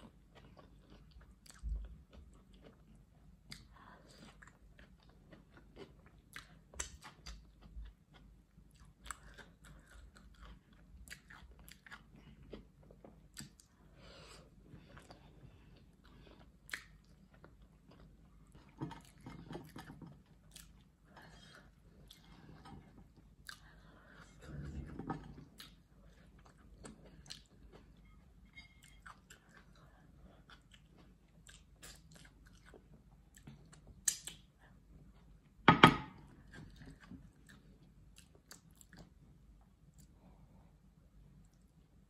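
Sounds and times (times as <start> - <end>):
soft chewing: 0.0 - 42.0.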